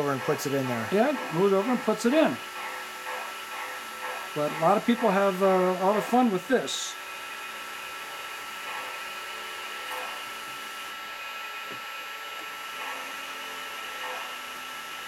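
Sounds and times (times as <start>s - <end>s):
model train motor whirring: 0.0s - 15.0s.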